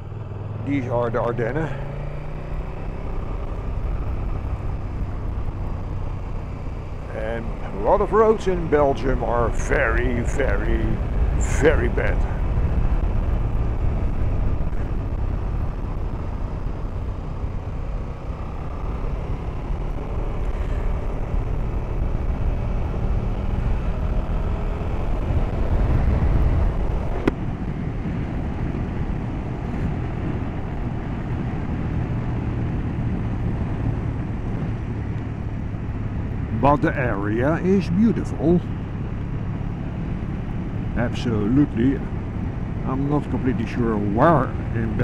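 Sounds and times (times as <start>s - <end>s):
motorcycle engine running: 0.0s - 45.0s
wind rush on microphone: 1.9s - 45.0s.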